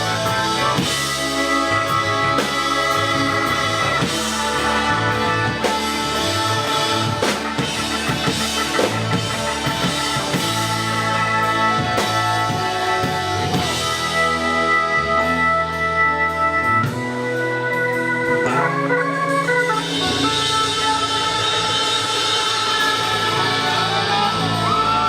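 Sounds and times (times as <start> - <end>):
drum kit steady beat: 0.0 - 25.0
live rock band playing: 0.0 - 25.0.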